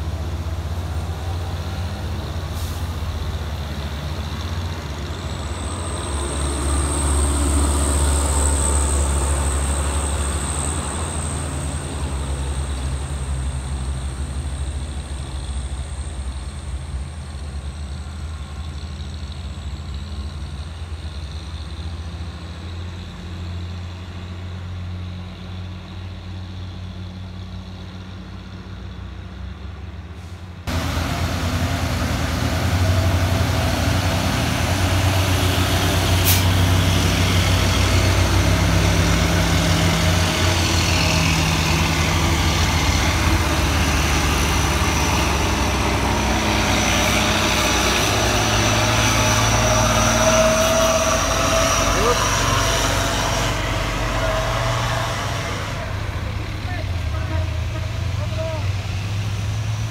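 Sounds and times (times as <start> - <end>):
truck diesel engines droning: 0.0 - 59.9
trucks passing: 0.0 - 59.9.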